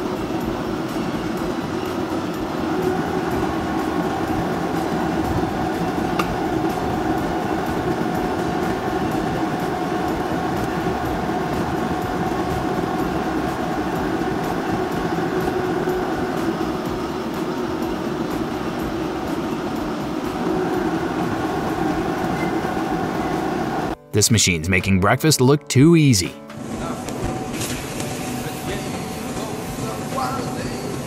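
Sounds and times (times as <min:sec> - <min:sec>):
roller machine drone: 0:00.0 - 0:24.0, 0:26.5 - 0:31.0.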